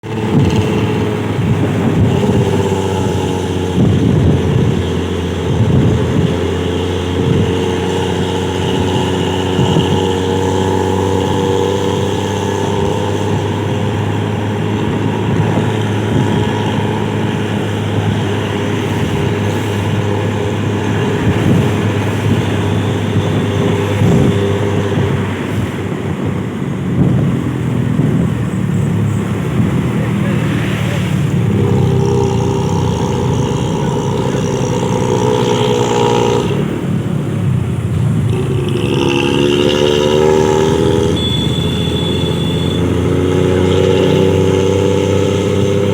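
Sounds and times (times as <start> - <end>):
bus engine droning: 0.0 - 45.9.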